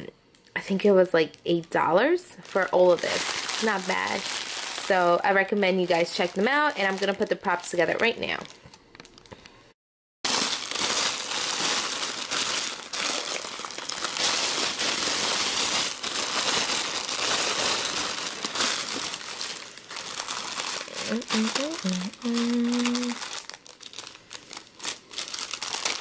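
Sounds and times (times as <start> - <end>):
plastic packaging crinkling: 0.8 - 9.6, 10.3 - 26.0.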